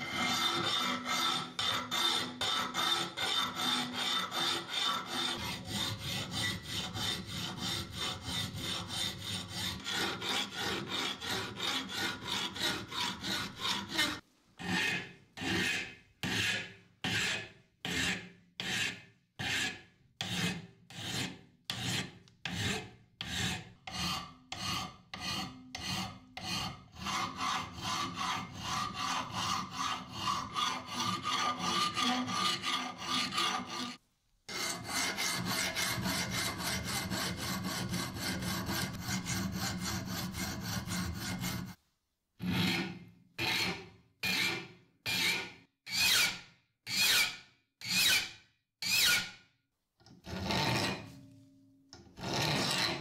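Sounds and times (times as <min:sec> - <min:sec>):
hand file rasping on steel: 0:00.0 - 0:41.8, 0:42.4 - 0:49.4, 0:52.1 - 0:53.0.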